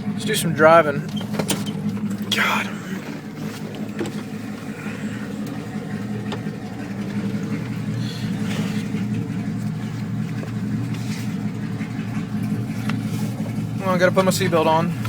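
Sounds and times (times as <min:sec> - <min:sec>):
truck engine idling roughly: 0:00.0 - 0:15.0.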